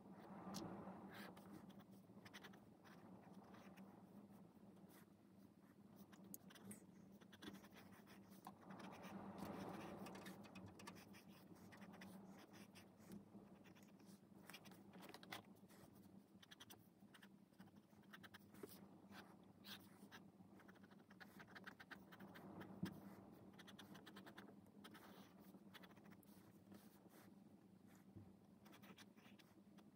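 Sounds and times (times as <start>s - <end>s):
pencil scratching on paper: 1.1s - 3.9s, 4.8s - 29.9s.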